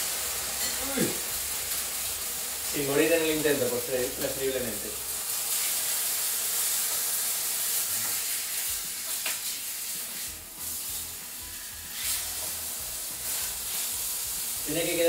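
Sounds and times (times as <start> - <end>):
fish searing in a frying pan: 0.0 - 15.0.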